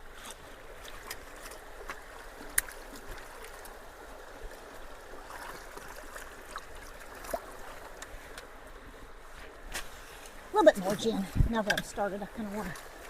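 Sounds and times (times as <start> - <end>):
creek water running into culvert: 0.0 - 13.0.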